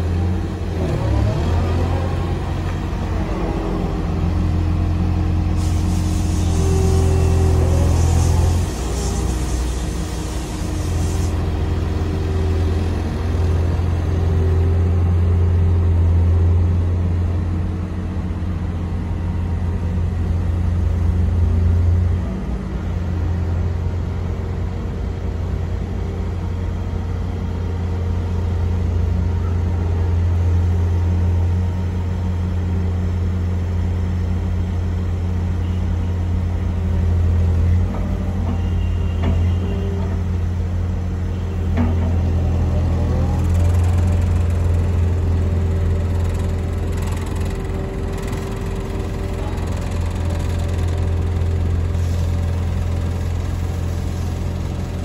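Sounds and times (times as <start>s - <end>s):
road roller diesel engine: 0.0s - 55.0s.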